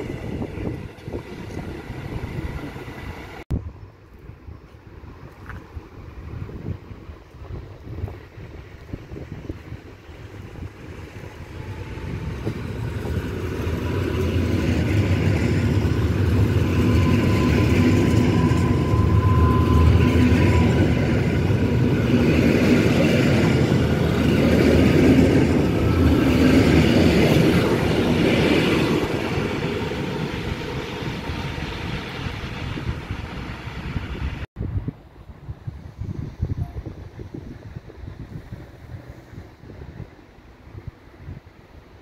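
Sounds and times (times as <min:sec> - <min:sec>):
train wheels and motors rumbling: 0:00.0 - 0:34.5.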